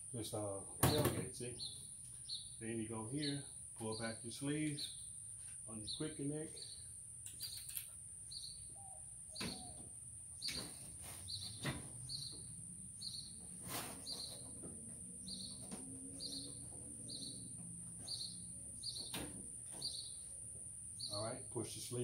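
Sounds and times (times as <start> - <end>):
bird chirping: 1.4 - 21.7.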